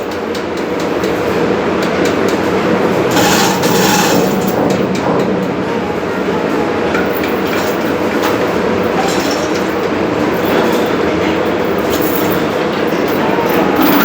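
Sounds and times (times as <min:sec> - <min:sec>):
ship engine running: 0:00.0 - 0:14.0.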